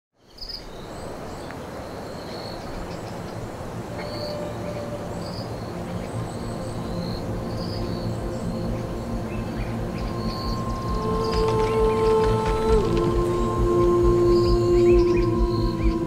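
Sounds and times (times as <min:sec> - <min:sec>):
cinematic background music: 0:03.0 - 0:16.0.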